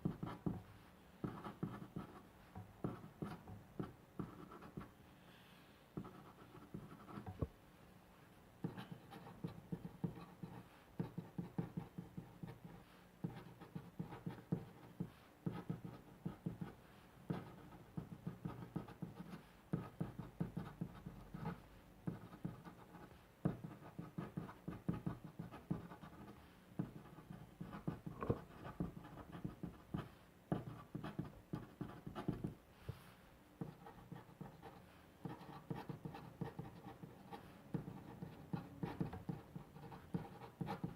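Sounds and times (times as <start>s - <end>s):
pen scratching on paper: 0.0s - 0.6s, 1.2s - 2.2s, 2.8s - 4.9s, 6.0s - 7.3s, 8.6s - 32.6s, 33.6s - 40.9s.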